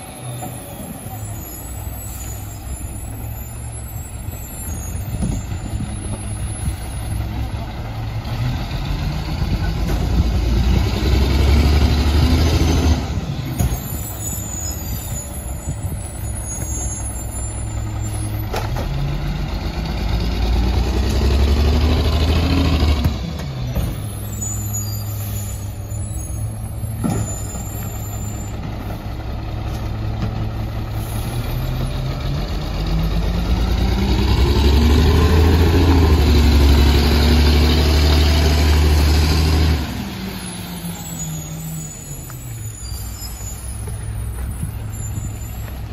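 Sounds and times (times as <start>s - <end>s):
garbage truck diesel engine pulling away: 0.0s - 45.9s.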